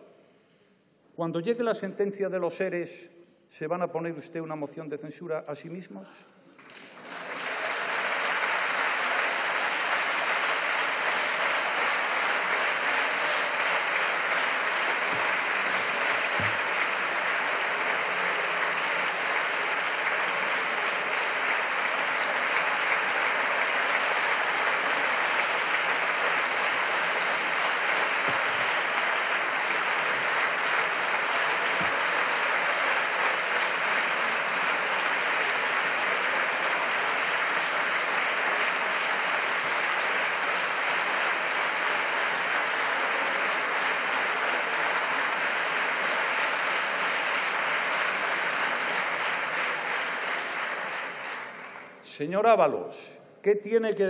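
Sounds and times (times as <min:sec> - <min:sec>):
crowd applauding: 0:06.5 - 0:52.1.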